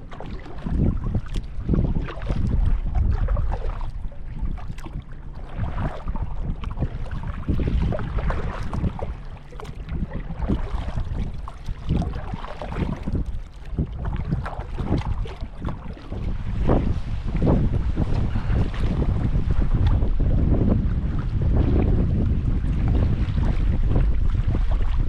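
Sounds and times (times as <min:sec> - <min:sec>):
water slapping against hull: 0:00.0 - 0:25.0
wind buffeting microphone: 0:00.0 - 0:25.0.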